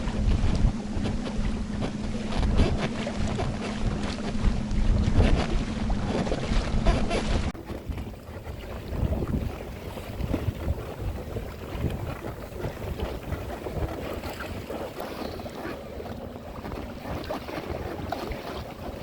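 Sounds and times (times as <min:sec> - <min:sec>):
water splashing against boat: 0:00.0 - 0:19.0
wind buffeting microphone: 0:00.0 - 0:19.0.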